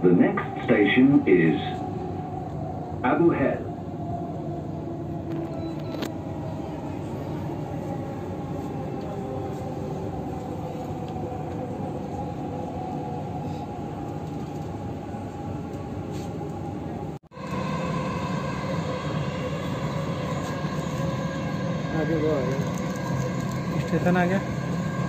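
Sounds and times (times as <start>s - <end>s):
metro train rumble and whine: 0.0s - 25.0s.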